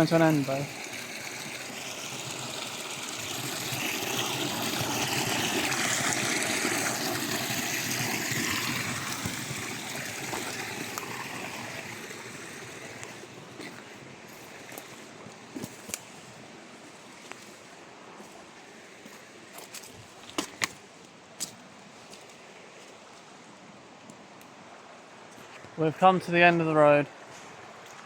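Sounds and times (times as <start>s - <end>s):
river water trickling over rocks: 0.0s - 28.0s.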